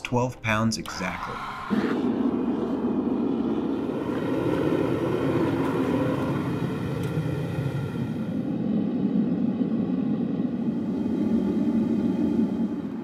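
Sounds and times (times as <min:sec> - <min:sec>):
gas burner roaring: 0:00.8 - 0:13.0.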